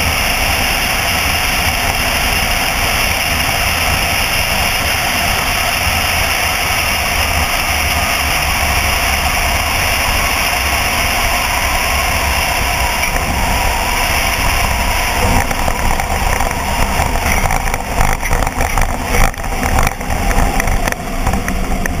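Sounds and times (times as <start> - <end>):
light aircraft engine: 0.0 - 22.0
wheels thumping on tarmac: 0.0 - 22.0
wind rush: 0.0 - 22.0.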